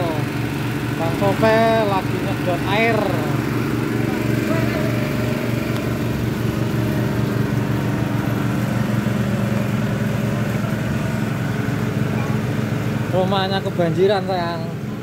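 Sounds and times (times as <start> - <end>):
engine-driven water pump running: 0.0 - 15.0.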